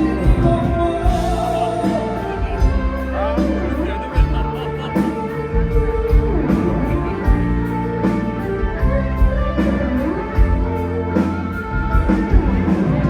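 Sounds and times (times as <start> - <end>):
electric guitar: 0.0 - 13.0
live band playing: 0.0 - 13.0.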